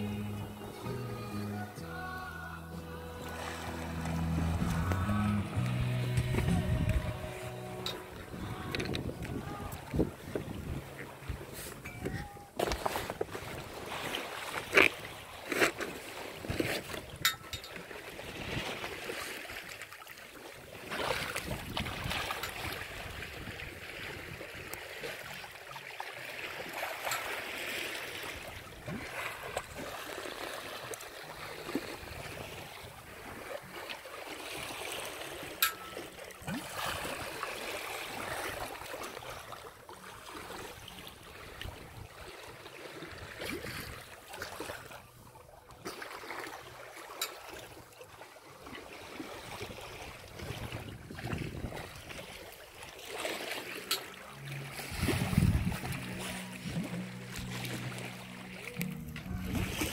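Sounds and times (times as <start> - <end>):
water splashing along hull: 0.0 - 59.9.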